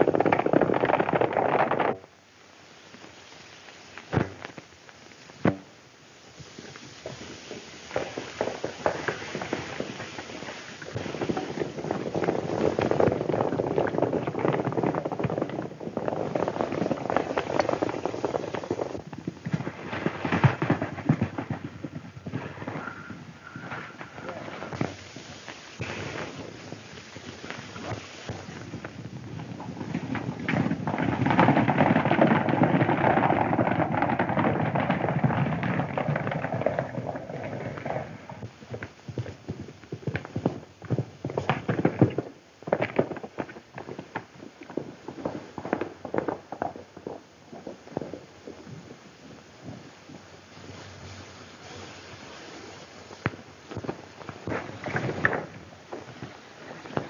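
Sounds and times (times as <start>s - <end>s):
horses galloping hoofbeats: 6.4s - 57.0s.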